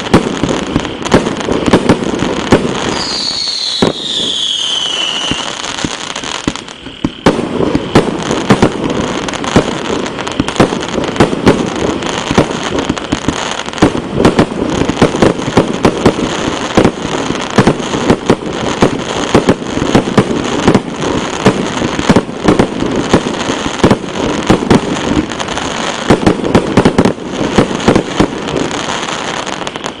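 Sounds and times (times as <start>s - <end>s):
fireworks popping and banging: 0.0s - 30.0s.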